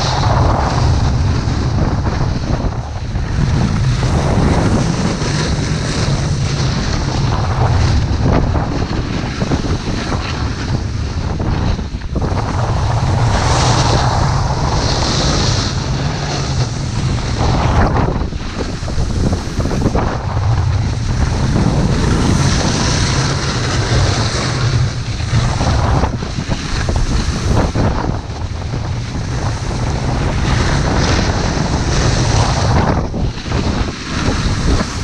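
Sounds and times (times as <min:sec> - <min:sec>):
snowboard sliding over snow: 0:00.0 - 0:35.0
wind buffeting microphone: 0:00.0 - 0:35.0.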